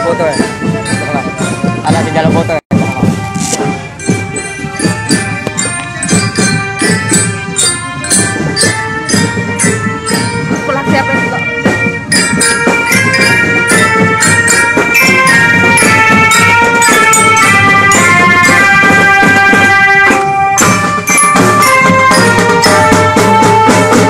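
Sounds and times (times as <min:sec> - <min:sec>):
glockenspiel melody: 0:00.0 - 0:24.0
snare and bass drums beat: 0:00.0 - 0:24.0.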